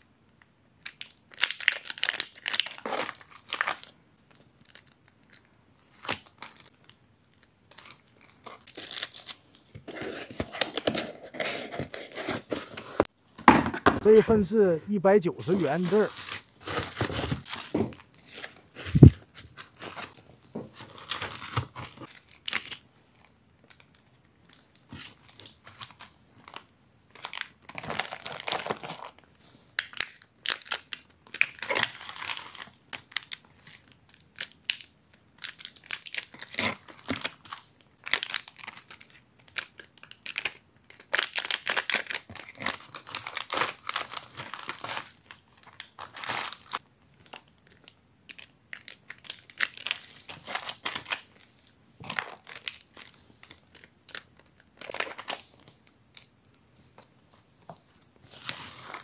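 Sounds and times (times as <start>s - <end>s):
packaging crinkling and rustling: 0.8s - 14.4s, 15.4s - 59.0s.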